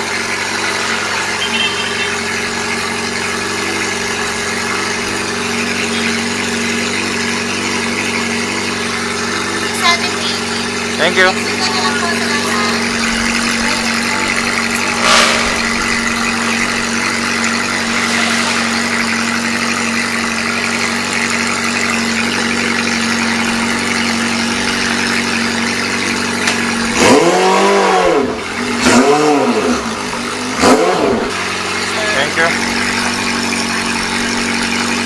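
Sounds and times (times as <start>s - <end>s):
motorcycle engine idling and revving: 0.0s - 35.0s.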